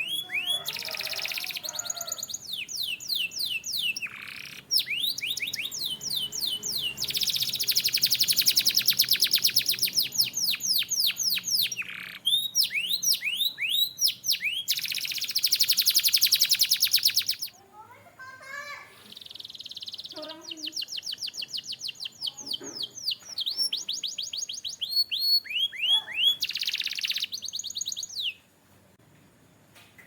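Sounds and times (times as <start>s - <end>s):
canary singing: 0.0s - 28.5s.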